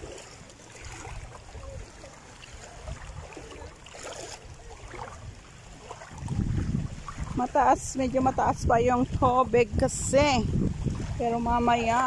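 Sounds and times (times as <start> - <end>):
water lapping: 0.0 - 12.0
wind rumbling on microphone: 0.0 - 12.0.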